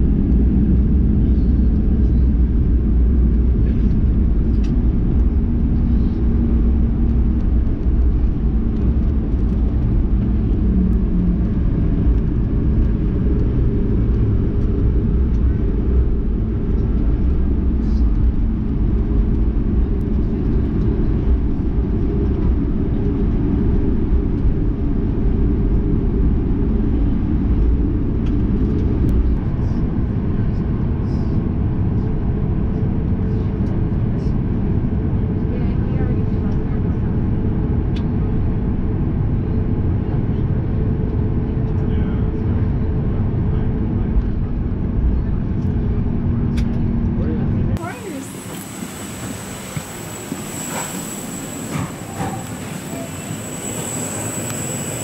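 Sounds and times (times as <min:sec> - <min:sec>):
airplane cabin low rumble: 0:00.0 - 0:55.0.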